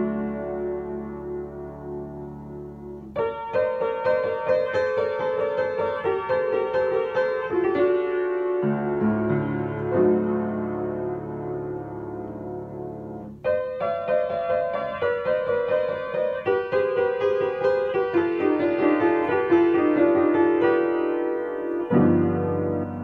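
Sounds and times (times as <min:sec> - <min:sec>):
piano playing: 0:00.0 - 0:23.0.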